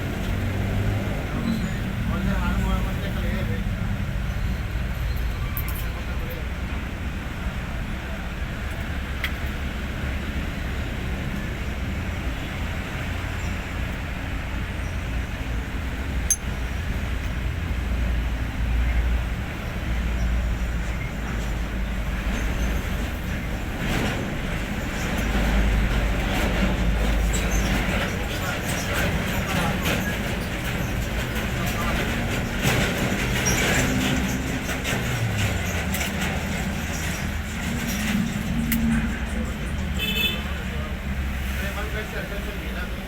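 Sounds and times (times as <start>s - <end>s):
diesel truck engine rumbling: 0.0s - 43.0s.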